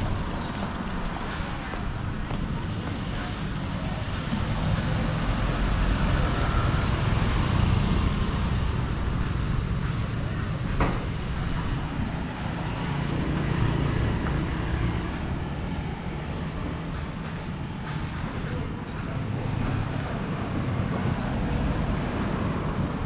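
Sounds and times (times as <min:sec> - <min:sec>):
vehicles passing on road: 0:00.0 - 0:23.0.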